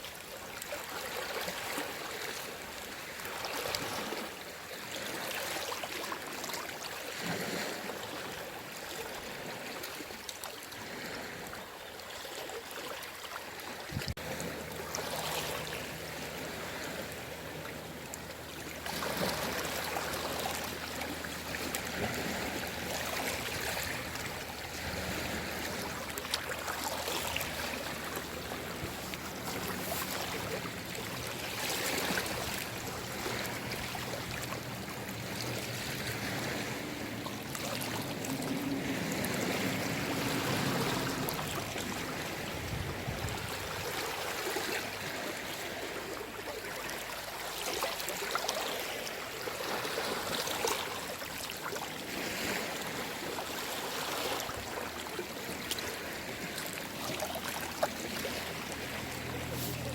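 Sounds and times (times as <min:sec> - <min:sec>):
small waves washing on shore: 0:00.0 - 0:59.9.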